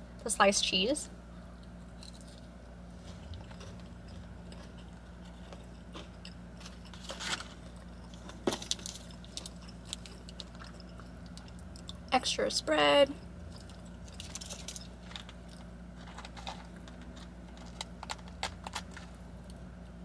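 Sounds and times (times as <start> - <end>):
steady low hum: 0.0 - 20.0
chewing food: 1.4 - 12.1, 13.2 - 19.6.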